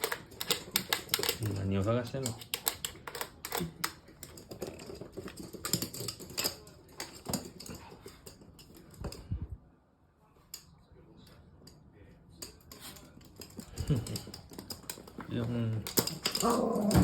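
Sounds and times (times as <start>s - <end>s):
dog claws clicking on floor: 0.0s - 9.3s, 10.4s - 17.0s.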